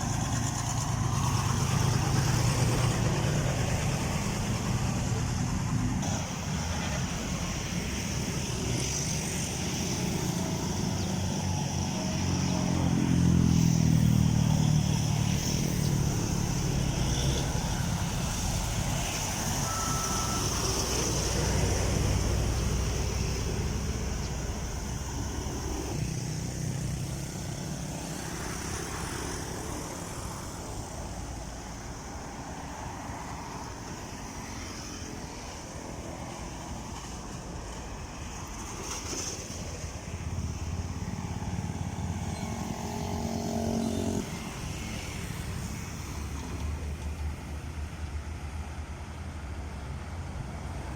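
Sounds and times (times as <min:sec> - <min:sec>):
heavy trucks passing: 0:00.0 - 0:50.9.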